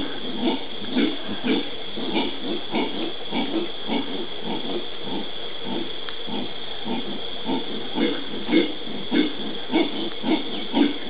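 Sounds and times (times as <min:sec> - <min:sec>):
howler monkey grunting: 0:00.0 - 0:11.0.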